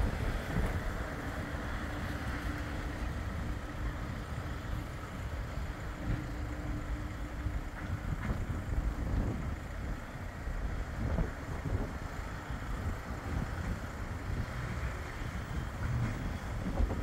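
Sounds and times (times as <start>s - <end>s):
traffic noise: 0.0s - 17.0s
wind buffeting microphone: 0.0s - 17.0s.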